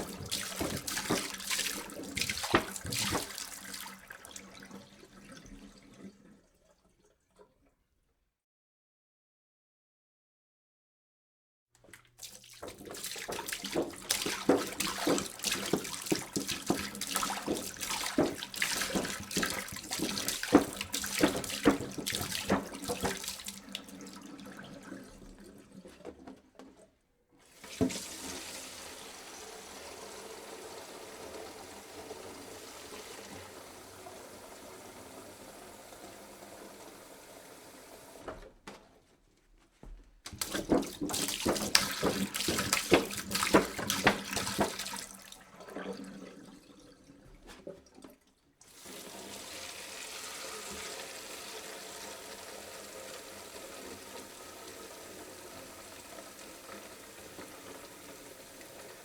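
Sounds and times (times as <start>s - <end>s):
water pouring into a jug: 0.0s - 7.7s, 11.9s - 26.8s, 27.4s - 38.3s, 40.3s - 59.0s.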